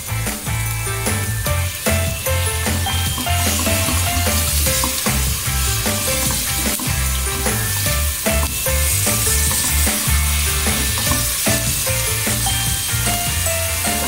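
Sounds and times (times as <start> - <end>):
background music with bass line: 0.0 - 14.0
meat and onions sizzling in a pot: 0.0 - 14.0.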